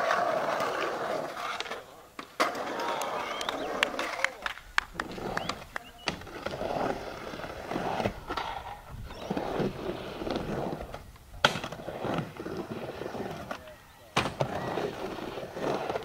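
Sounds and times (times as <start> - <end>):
skateboard clacking on coping: 0.0 - 16.0
skateboard wheels rumbling on concrete: 0.0 - 16.0.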